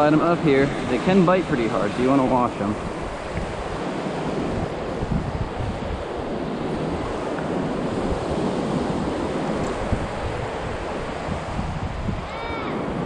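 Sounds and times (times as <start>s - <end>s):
ocean surf washing ashore: 0.0s - 13.0s
wind buffeting microphone: 0.0s - 13.0s.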